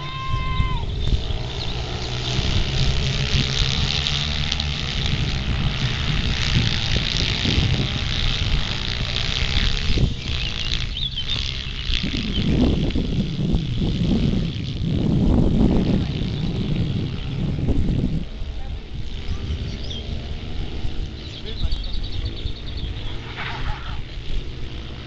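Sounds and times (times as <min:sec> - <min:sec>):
minibike engines buzzing and revving: 0:00.0 - 0:25.0.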